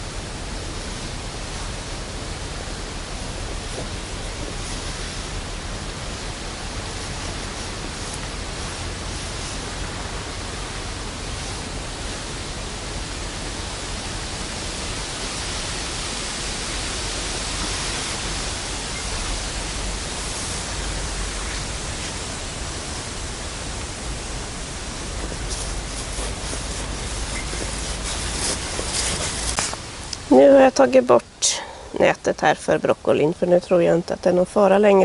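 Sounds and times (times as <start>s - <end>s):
wind noise on microphone: 0.0s - 31.3s.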